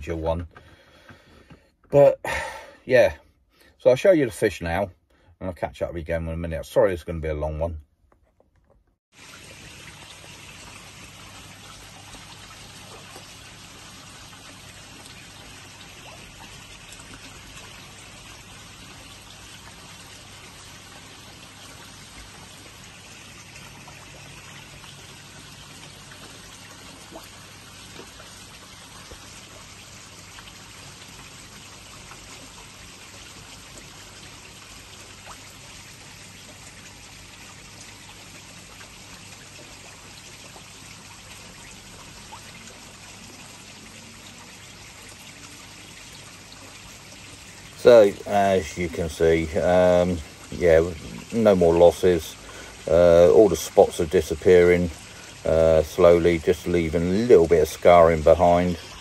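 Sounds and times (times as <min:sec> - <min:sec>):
water trickling into pond: 0:00.0 - 0:03.2, 0:09.1 - 0:59.0.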